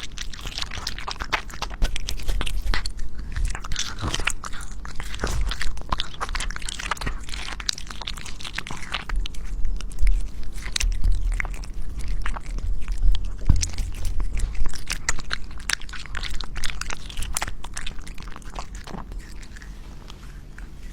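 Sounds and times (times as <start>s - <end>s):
cat chewing raw food: 0.0s - 20.9s.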